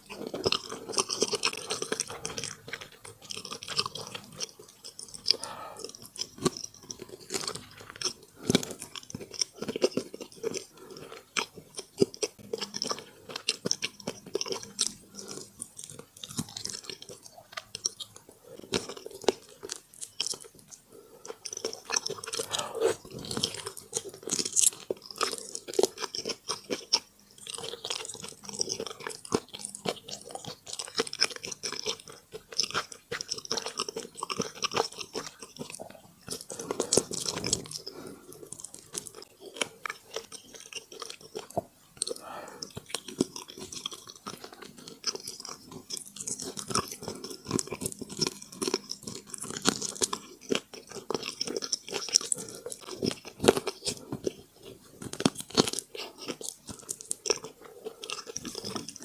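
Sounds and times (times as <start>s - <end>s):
person chewing crunchy food: 0.0s - 59.0s
wet mouth clicks: 0.0s - 59.0s.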